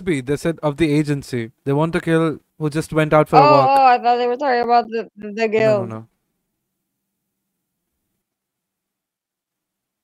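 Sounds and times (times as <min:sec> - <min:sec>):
faint digital hiss: 0:00.0 - 0:08.6.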